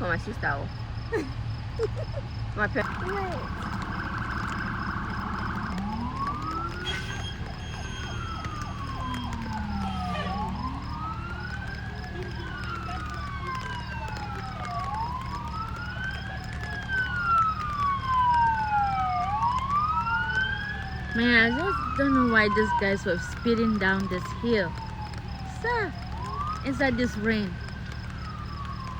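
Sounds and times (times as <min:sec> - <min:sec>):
emergency sirens wailing: 0:00.0 - 0:28.9.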